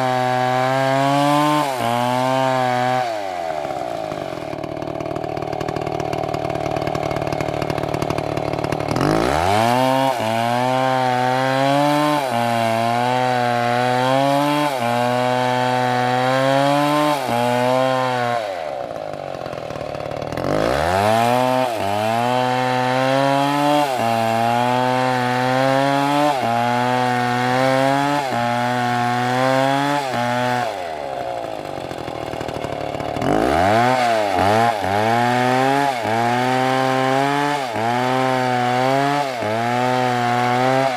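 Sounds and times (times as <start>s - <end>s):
chainsaw revving and cutting wood: 0.0s - 40.9s.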